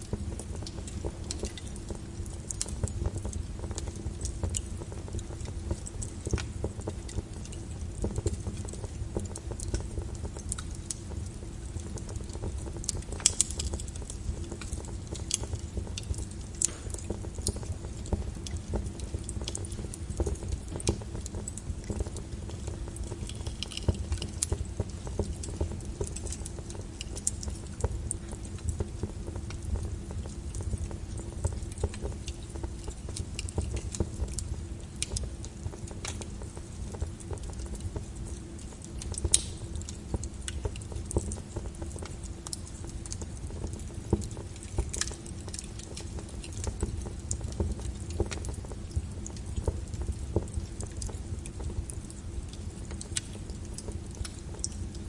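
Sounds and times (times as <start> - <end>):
fire crackles popping: 0.0 - 55.0.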